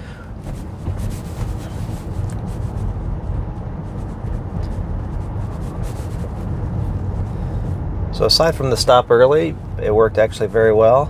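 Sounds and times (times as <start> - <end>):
road and tyre rumble in car: 0.0 - 11.0.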